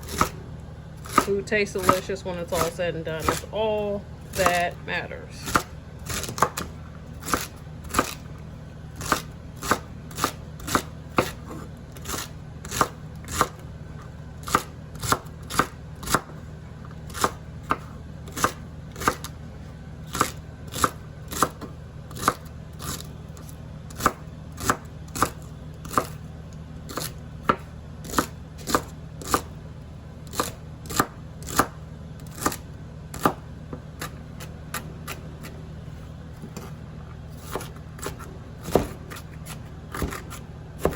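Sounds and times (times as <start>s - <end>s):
knife chopping onion: 0.0s - 4.8s, 5.4s - 8.3s, 8.9s - 19.4s, 20.1s - 26.3s, 26.9s - 29.6s, 30.2s - 35.6s, 36.4s - 40.9s.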